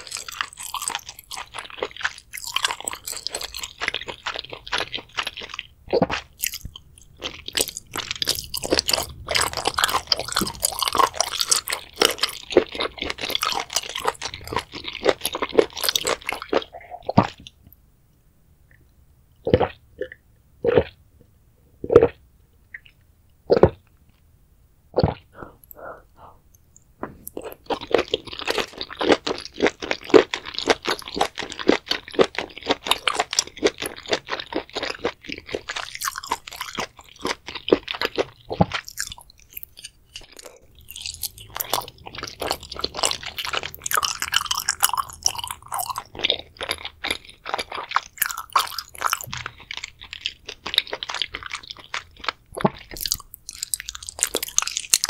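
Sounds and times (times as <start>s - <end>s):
close chewing: 0.0s - 17.8s, 25.0s - 55.0s.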